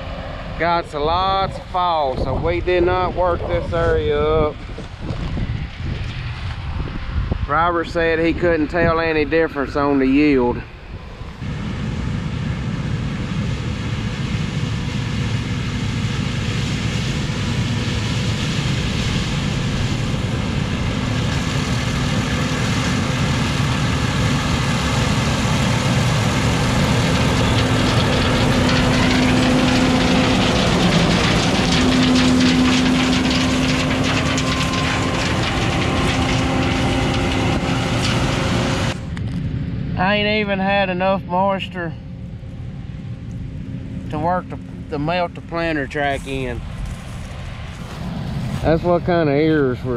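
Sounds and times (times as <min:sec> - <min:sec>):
combine harvester droning: 0:00.0 - 0:49.9.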